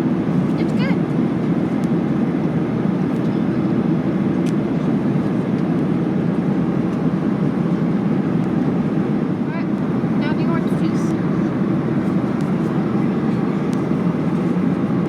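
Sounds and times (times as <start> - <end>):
airplane cabin roar: 0.0 - 15.0.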